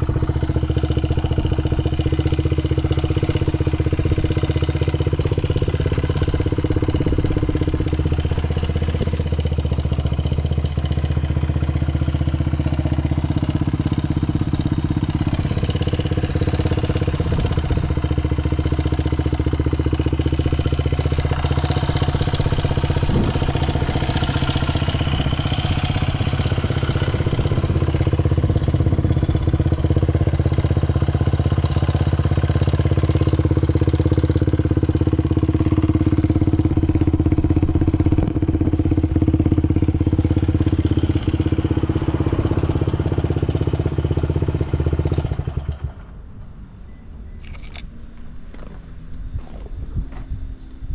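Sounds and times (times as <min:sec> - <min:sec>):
small engine idling: 0:00.0 - 0:50.8.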